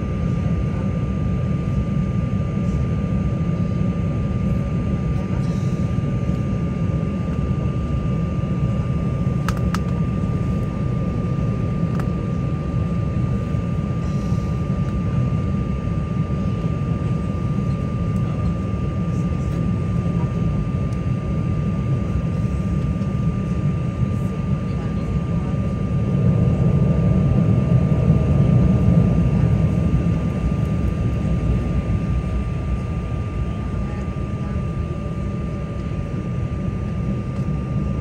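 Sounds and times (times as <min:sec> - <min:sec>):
jet engines rumbling with whine: 0:00.0 - 0:38.0.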